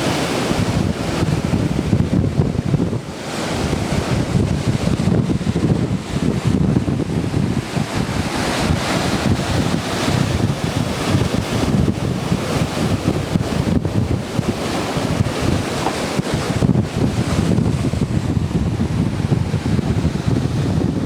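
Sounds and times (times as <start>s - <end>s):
breaking surf rushing: 0.0s - 21.0s
wind buffeting microphone: 0.0s - 21.0s.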